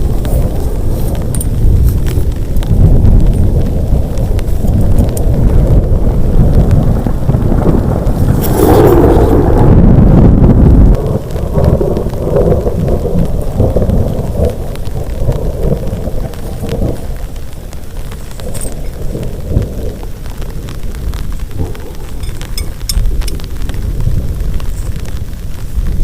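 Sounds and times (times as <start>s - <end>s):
heavy rain downpour: 0.0s - 26.0s
sharp raindrop ticks: 0.0s - 26.0s
thunder rumbling: 0.0s - 26.0s.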